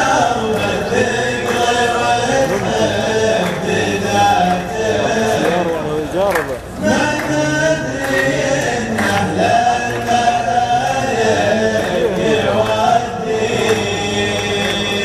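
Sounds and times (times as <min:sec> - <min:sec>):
backing voices: 0:00.0 - 0:15.0.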